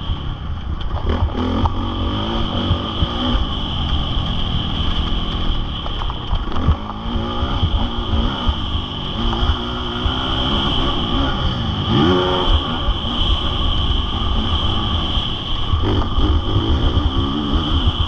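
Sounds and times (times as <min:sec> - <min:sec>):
motocross bike revving: 0:00.0 - 0:18.0.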